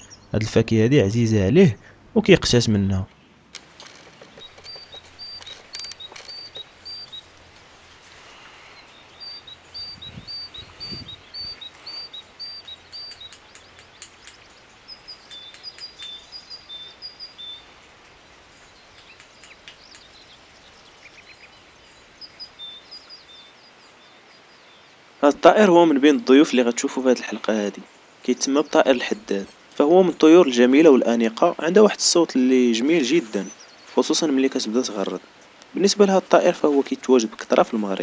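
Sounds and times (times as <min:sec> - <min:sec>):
great tit singing: 0:00.0 - 0:38.0.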